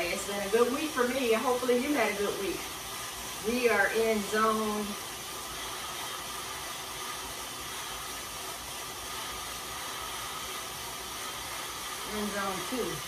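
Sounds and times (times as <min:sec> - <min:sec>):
bike tyres whirring on rollers: 0:00.0 - 0:13.0.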